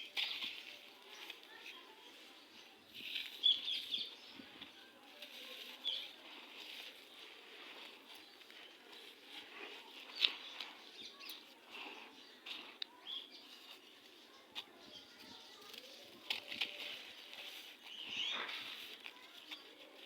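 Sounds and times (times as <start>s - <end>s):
sand crumbling and crunching: 0.0s - 20.0s.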